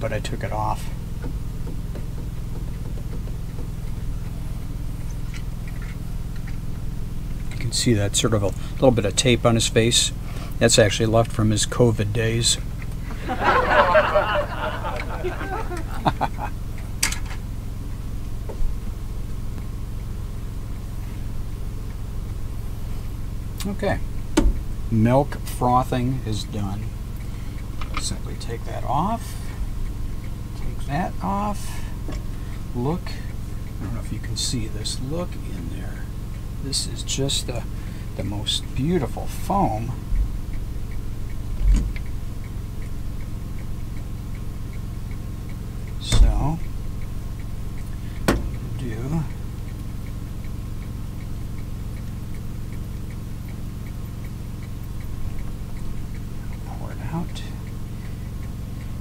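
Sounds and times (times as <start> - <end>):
steady low hum: 0.0 - 59.0
faint even ticking: 0.8 - 59.0.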